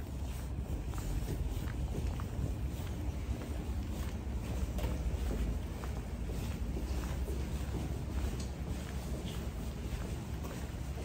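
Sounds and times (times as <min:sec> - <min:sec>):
faint light footsteps: 0:00.0 - 0:11.0
steady low rumble: 0:00.0 - 0:11.0.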